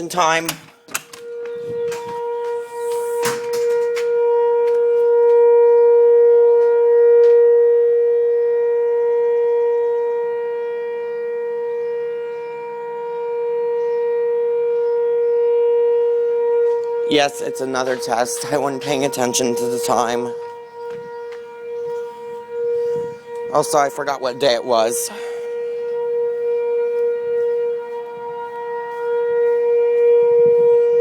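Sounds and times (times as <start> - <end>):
tornado warning siren steady tone: 0.0 - 31.0.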